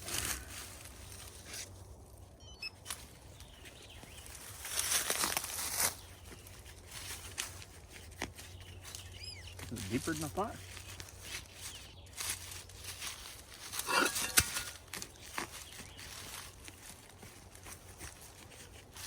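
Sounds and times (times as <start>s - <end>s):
digging in soil and leaves: 0.0s - 19.0s.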